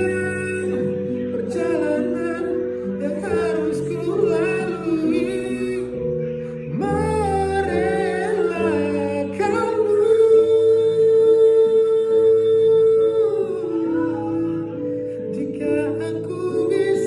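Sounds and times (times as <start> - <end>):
backing music: 0.0 - 17.0
person singing: 0.0 - 17.0.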